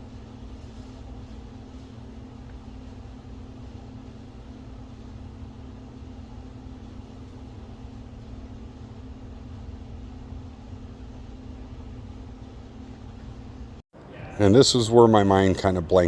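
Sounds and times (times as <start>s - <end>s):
fan humming with low rumble: 0.0s - 16.0s.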